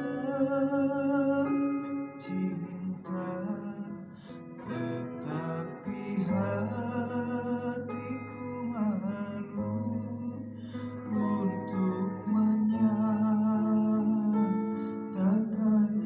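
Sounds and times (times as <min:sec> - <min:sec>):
acoustic guitar playing: 0:00.0 - 0:16.0
person singing slow melody: 0:00.0 - 0:16.0.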